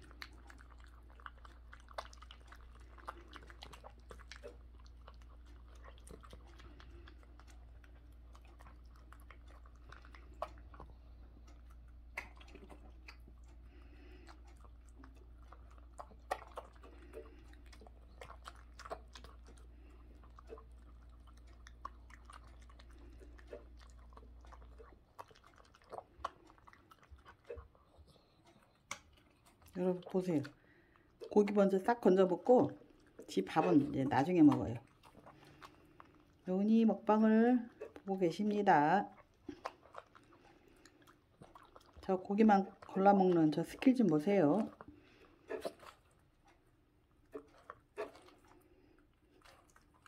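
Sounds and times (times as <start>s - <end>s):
dog crunching kibble: 0.0s - 50.0s.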